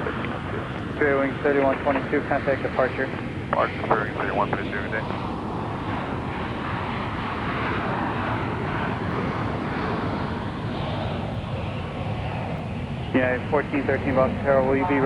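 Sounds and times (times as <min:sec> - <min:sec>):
jet engine noise: 0:00.0 - 0:15.0.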